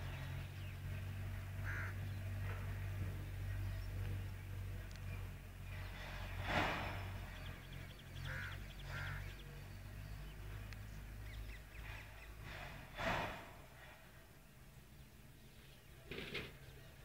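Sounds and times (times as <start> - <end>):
bird calling: 0.0 - 17.0
steady low hum: 0.0 - 17.0.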